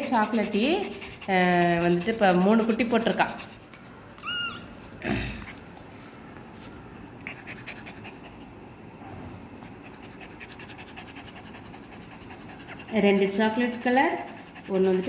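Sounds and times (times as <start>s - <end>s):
dog panting: 0.0s - 6.1s, 7.2s - 15.0s.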